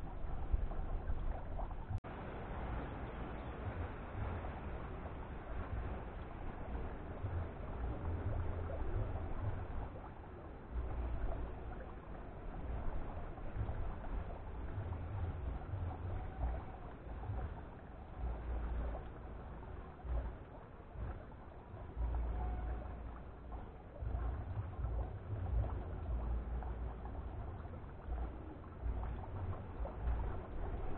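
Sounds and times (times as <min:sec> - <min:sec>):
water trickling and gurgling: 0:00.0 - 0:30.9
wind buffeting microphone: 0:00.0 - 0:30.9.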